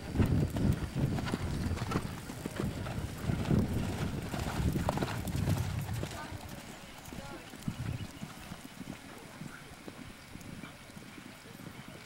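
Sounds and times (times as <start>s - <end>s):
hoofbeats on dirt: 0.0s - 12.0s.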